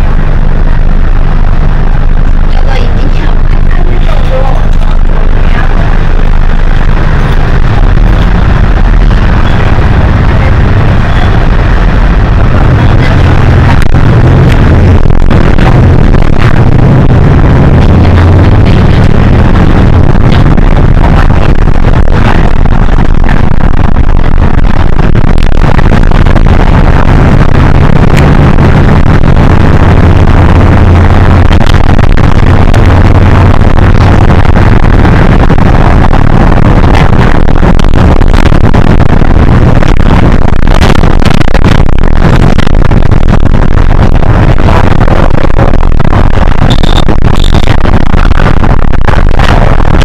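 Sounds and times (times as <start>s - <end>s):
bus diesel engine hum: 0.0s - 40.3s.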